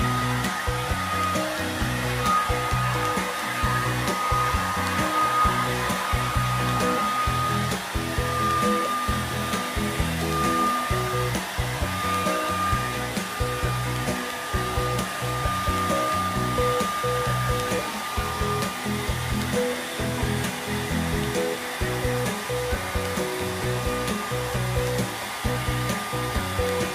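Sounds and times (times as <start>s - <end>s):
hair dryer blowing with whine: 0.0s - 26.9s
music with stepping bass line: 0.0s - 26.9s.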